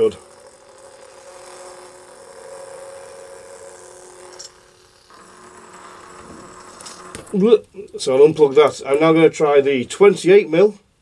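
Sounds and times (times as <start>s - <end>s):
electronic hum with hiss: 0.0s - 11.0s.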